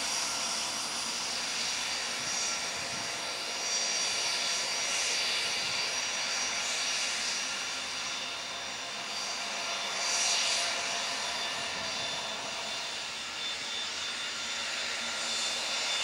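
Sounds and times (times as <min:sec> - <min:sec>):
jet engines whining while taxiing: 0:00.0 - 0:16.0.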